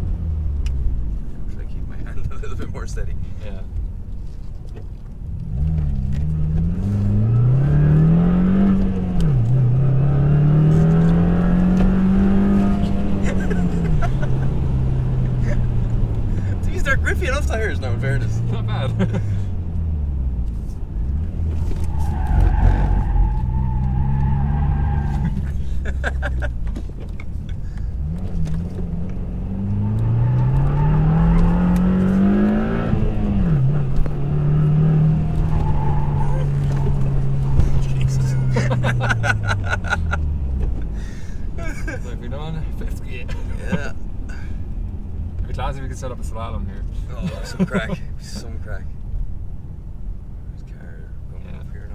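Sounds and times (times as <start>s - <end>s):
car engine accelerating hard: 5.2s - 49.8s.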